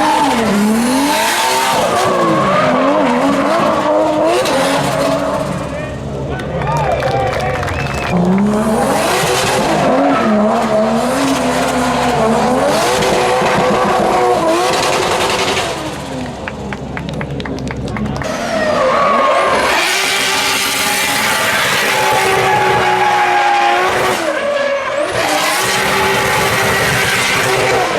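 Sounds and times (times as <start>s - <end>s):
car engine revving hard: 0.0s - 5.8s, 8.0s - 16.6s, 18.3s - 27.9s.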